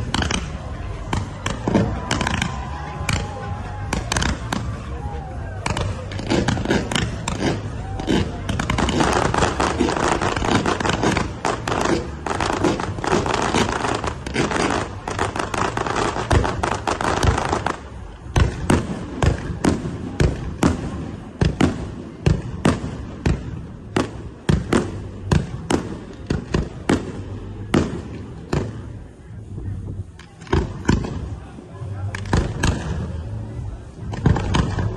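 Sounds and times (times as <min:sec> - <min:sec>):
fireworks bursting and crackling: 0:00.0 - 0:34.9
fireworks sharp bangs: 0:00.0 - 0:34.9.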